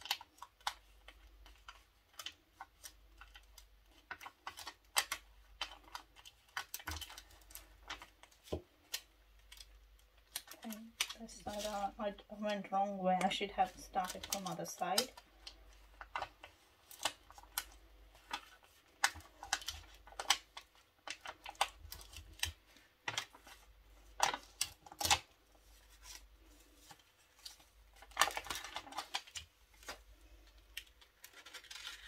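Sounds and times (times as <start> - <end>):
crinkling of backing sheet: 0.0 - 32.0
vinyl tape crackling and peeling: 0.0 - 32.0.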